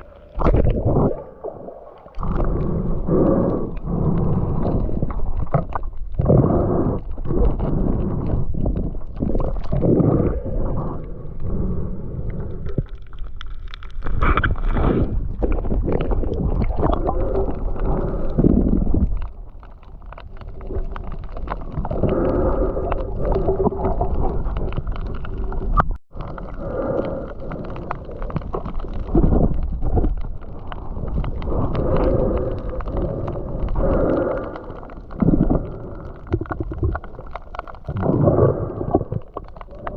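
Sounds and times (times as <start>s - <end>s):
muffled water sloshing and gurgling: 0.0s - 39.9s.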